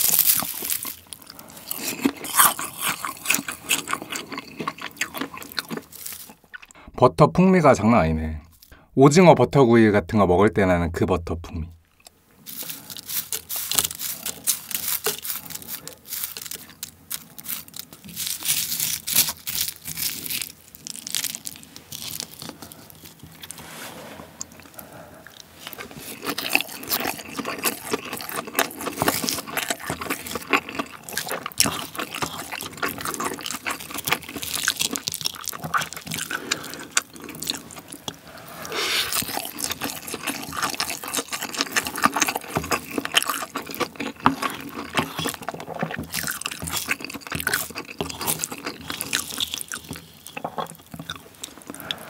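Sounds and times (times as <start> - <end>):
wet crackly chewing: 0.0 - 6.8, 12.0 - 23.6, 24.4 - 52.0.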